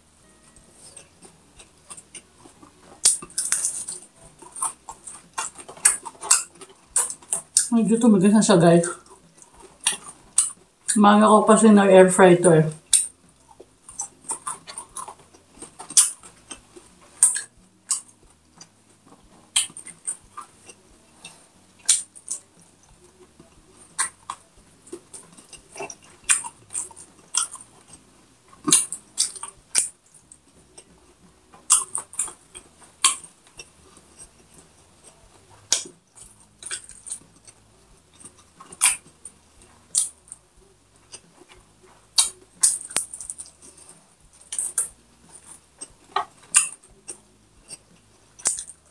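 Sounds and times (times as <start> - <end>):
chewing with sharp crunches: 0.0 - 8.1, 8.7 - 11.6, 12.6 - 48.9.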